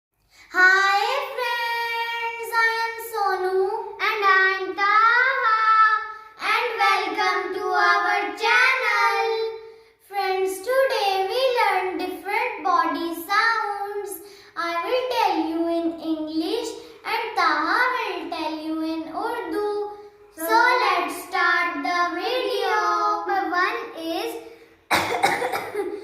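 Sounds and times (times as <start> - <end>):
child singing: 0.5 - 24.2.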